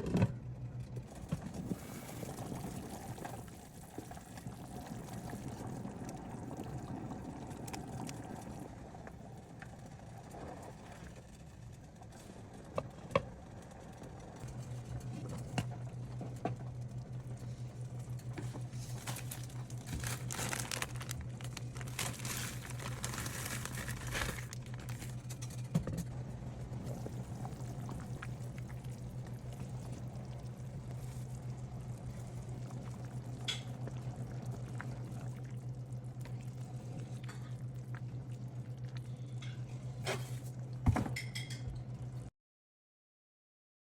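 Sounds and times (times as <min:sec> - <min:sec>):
steady low hum: 0:00.0 - 0:42.3
liquid pouring and sloshing: 0:01.0 - 0:12.5, 0:13.9 - 0:25.8, 0:26.8 - 0:41.6.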